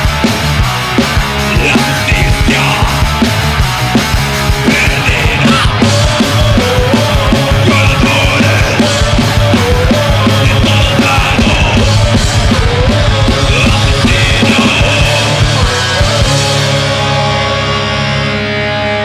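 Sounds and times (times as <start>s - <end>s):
thrash metal band playing: 0.0s - 19.0s.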